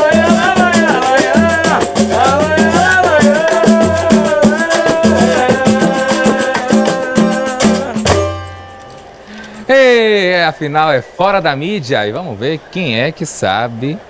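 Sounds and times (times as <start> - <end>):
upbeat latin band music: 0.0 - 14.0.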